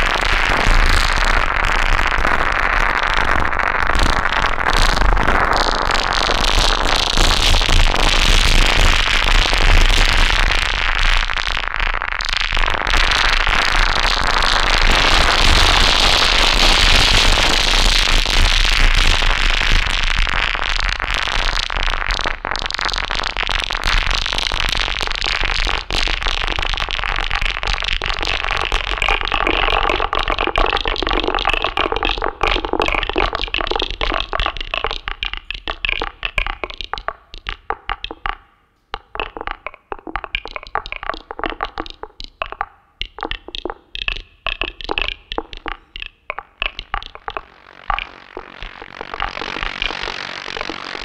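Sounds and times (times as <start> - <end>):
crackling electronic click texture: 0.0 - 51.0.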